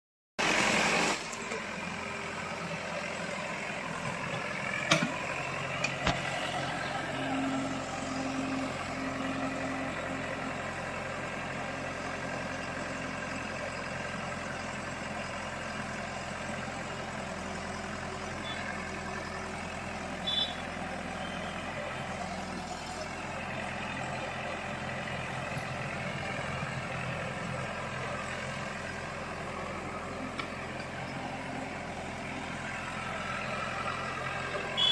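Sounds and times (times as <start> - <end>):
diesel engine running: 0.4 - 34.9.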